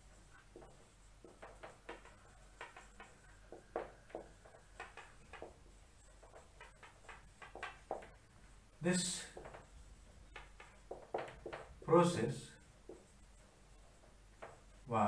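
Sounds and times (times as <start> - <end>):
marker pen writing on whiteboard: 0.0 - 14.9.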